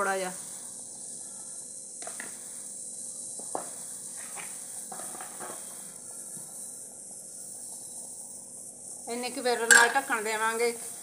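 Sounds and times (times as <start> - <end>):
lentils boiling in water: 0.0 - 11.0.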